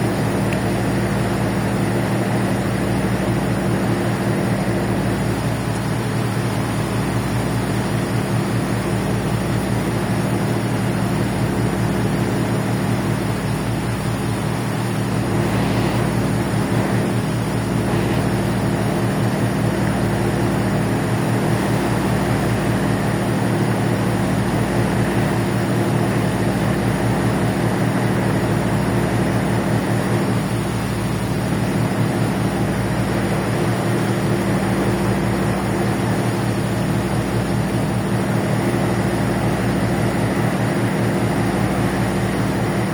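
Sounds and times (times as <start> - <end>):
constant rushing noise: 0.0 - 42.9
ferry engines droning: 0.0 - 42.9.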